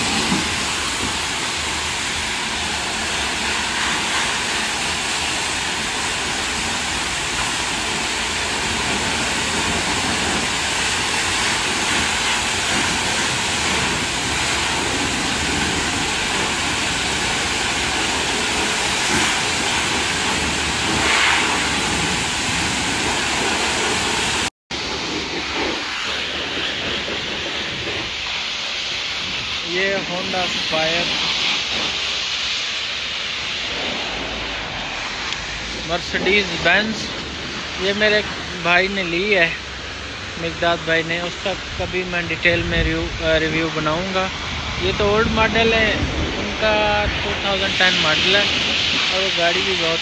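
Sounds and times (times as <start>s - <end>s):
pressure washer jet hissing: 0.0s - 50.0s.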